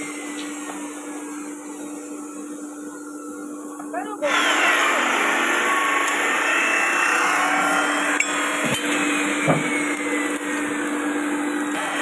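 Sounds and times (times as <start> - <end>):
motor-driven tool humming: 0.0 - 12.0.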